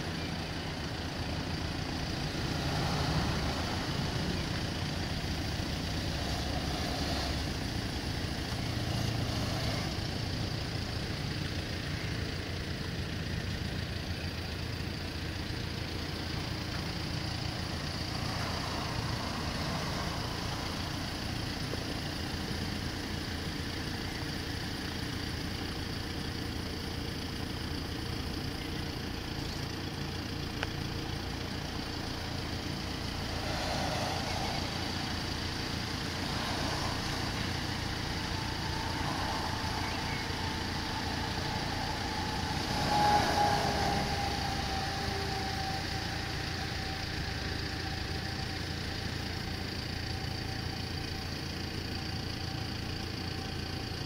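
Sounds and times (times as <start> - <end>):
faint steady tone: 0.0 - 54.0
vehicle engine idling: 0.0 - 54.0.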